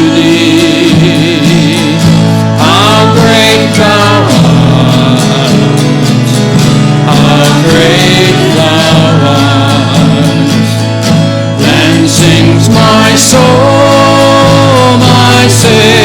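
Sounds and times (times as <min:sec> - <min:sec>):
person singing hymn: 0:00.0 - 0:11.0, 0:11.6 - 0:16.0
guitar accompaniment: 0:00.0 - 0:16.0.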